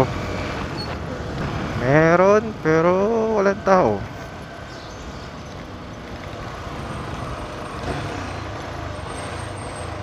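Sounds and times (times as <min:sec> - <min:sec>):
motorcycle engine: 0:00.0 - 0:10.0
road and wind noise: 0:00.0 - 0:10.0.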